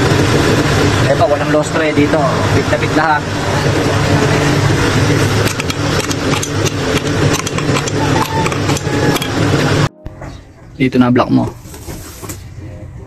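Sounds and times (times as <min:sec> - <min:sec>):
engine idling: 0:00.0 - 0:10.8.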